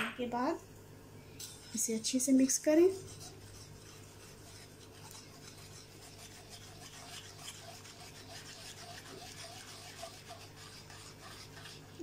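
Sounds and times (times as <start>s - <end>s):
whisk swishing in metal pot: 1.4s - 12.0s.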